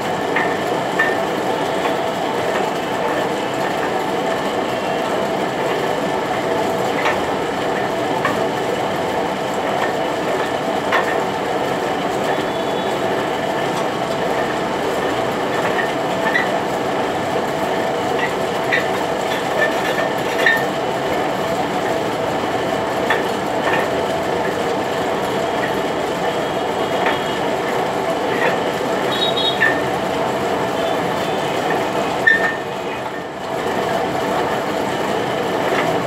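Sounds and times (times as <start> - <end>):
metal lathe running: 0.0 - 36.0.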